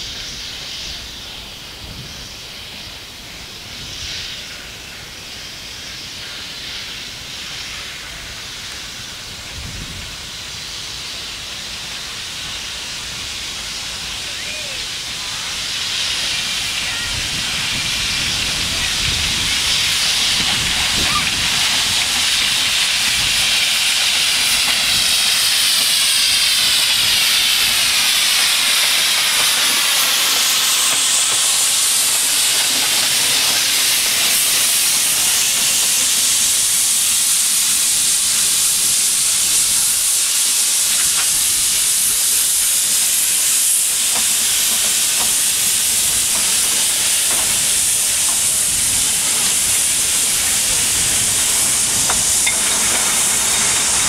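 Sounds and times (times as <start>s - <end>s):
steam locomotive hissing: 0.0s - 54.0s.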